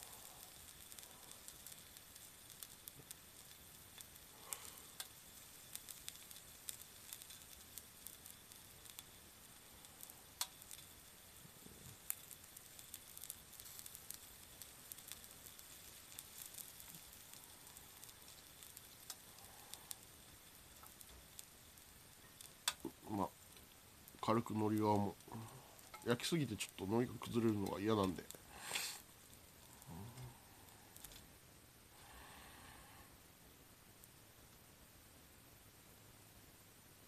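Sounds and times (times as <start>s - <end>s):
oil popping and crackling: 0.0s - 31.2s
food sizzling on hot plate: 0.0s - 33.0s, 33.7s - 37.0s.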